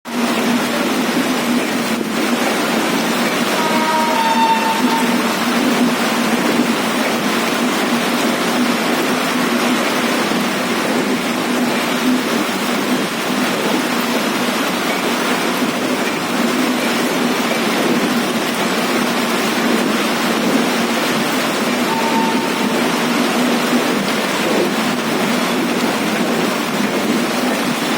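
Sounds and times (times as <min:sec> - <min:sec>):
heavy rain: 0:00.1 - 0:27.9.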